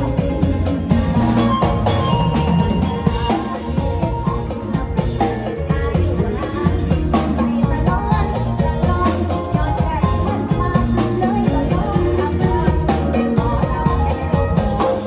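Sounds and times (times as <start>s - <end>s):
drum kit beat: 0.0s - 15.0s
keyboard melody: 0.0s - 15.0s.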